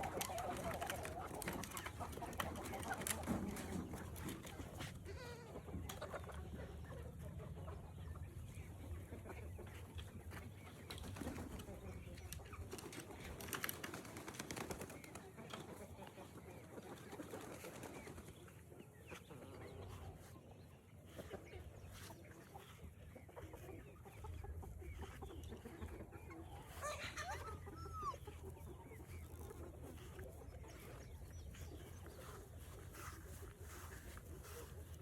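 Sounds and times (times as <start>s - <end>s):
chickens clucking: 0.0s - 35.0s.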